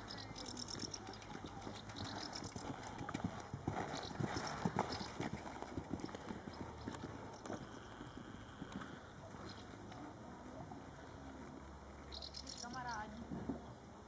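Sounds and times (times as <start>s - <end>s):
horse hoofbeats on dirt: 0.3s - 11.7s.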